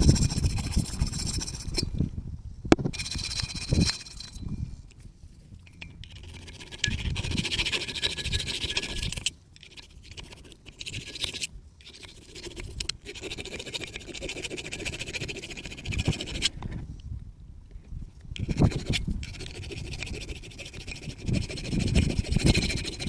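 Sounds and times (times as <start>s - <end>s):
rapid scraping: 0.0s - 2.0s, 2.8s - 4.7s, 6.1s - 16.6s, 18.4s - 23.0s.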